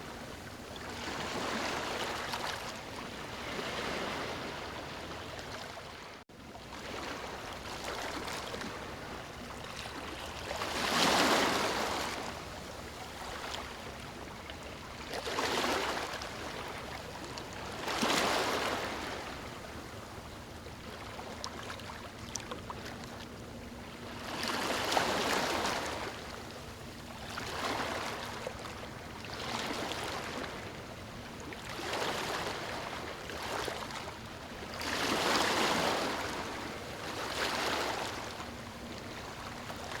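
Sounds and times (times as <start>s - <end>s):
ocean waves breaking on shore: 0.0s - 40.0s.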